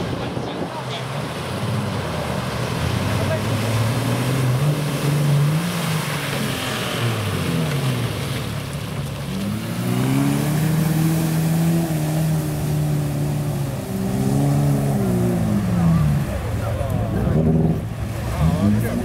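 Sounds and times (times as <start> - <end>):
off-road engine revving hard: 1.0 - 8.6, 9.2 - 19.0.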